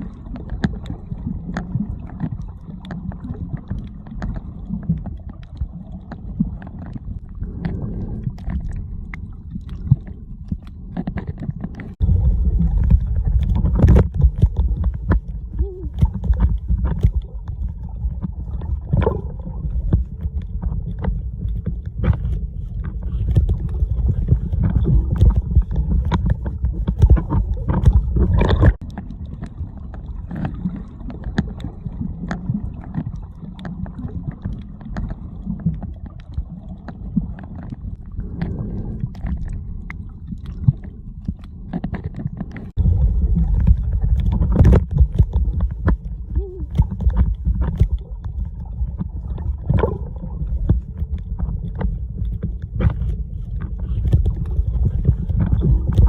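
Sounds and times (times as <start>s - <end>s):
muffled underwater water rumble: 0.0s - 56.0s
underwater clicks and pops: 0.0s - 56.0s.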